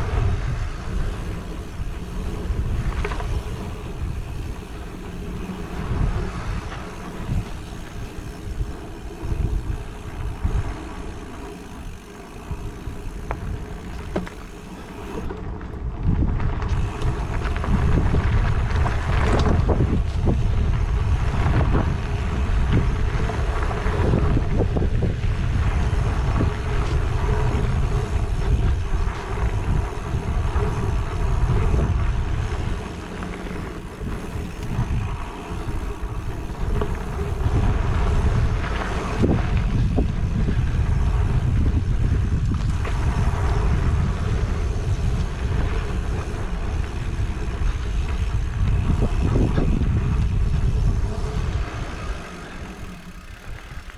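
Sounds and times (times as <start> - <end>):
bike rattling over dirt trail: 0.0 - 53.9
wind buffeting microphone: 0.0 - 53.9.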